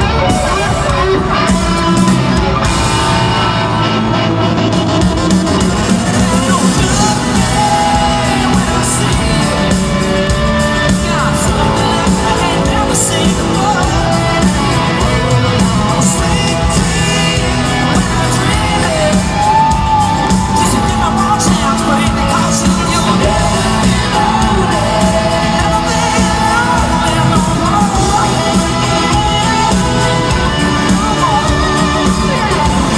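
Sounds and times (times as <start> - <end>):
crowd shouts and whoops: 0.0 - 32.9
lead singer singing: 0.0 - 32.9
live rock band playing: 0.0 - 32.9.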